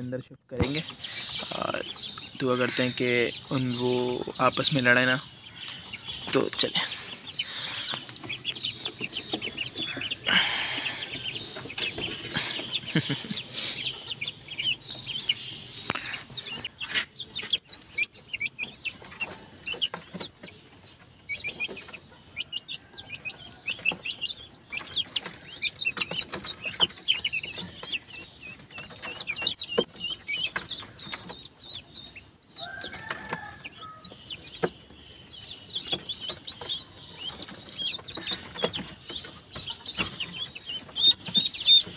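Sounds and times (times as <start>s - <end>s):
chicks and ducklings peeping: 0.0s - 41.9s.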